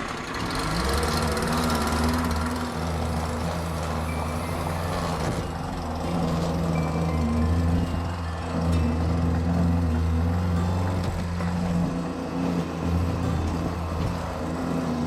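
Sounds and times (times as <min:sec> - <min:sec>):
electric lawnmower humming: 0:00.0 - 0:15.0.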